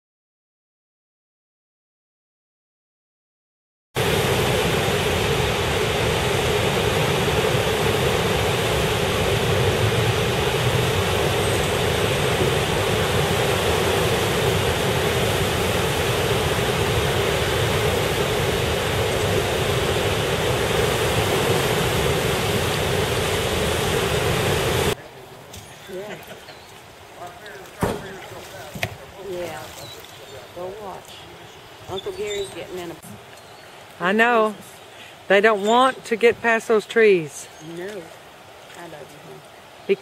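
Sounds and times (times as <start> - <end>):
floodwater rushing: 4.0 - 40.0.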